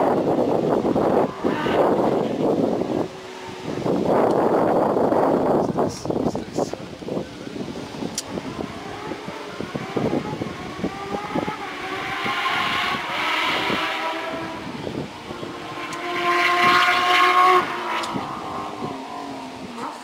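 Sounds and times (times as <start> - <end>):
distant engine revving hard: 0.0 - 5.4, 7.6 - 20.0.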